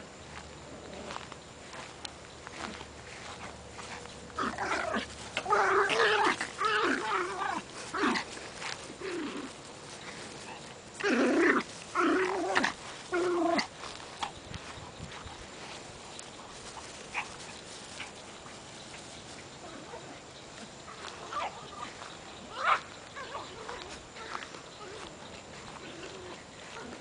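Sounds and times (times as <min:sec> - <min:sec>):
puppies growling: 0:02.6 - 0:27.0.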